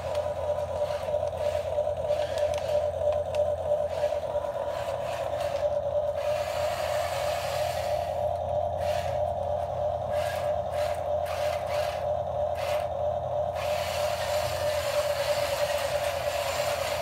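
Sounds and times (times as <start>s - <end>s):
low hum: 0.0s - 17.0s
motor whining: 0.0s - 17.0s.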